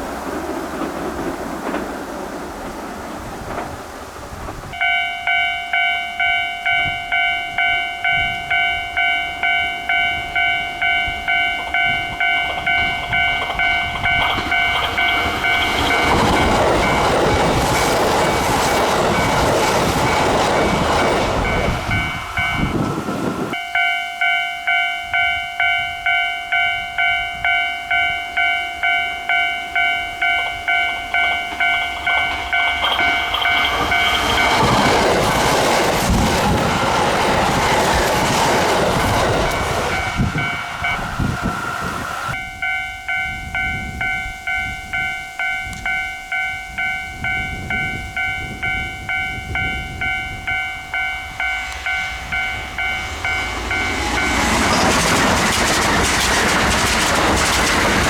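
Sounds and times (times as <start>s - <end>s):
train passing: 0.0s - 58.0s
level crossing alarm bell: 4.7s - 55.8s.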